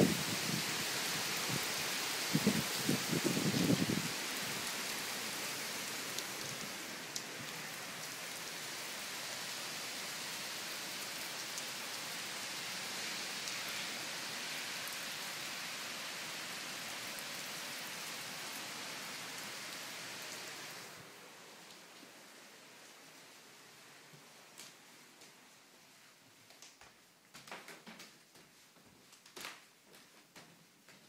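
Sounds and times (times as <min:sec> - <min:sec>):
heavy rain downpour: 0:00.0 - 0:25.2.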